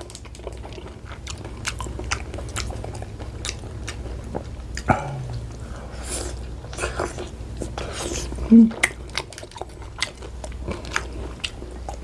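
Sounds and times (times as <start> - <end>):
chewing crunchy food: 0.0 - 12.0
low hum from eater: 0.0 - 12.0.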